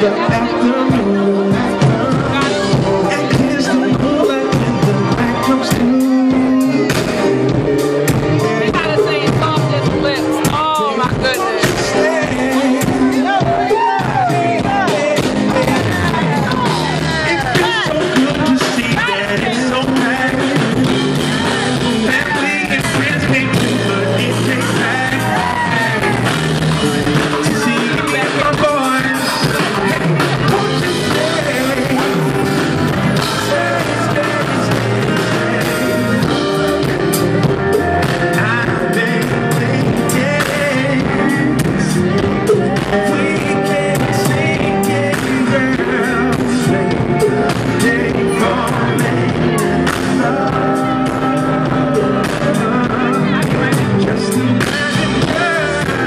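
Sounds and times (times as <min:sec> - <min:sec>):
drums: 0:00.0 - 0:56.0
live rhythm and blues band: 0:00.0 - 0:56.0
man singing: 0:00.0 - 0:56.0.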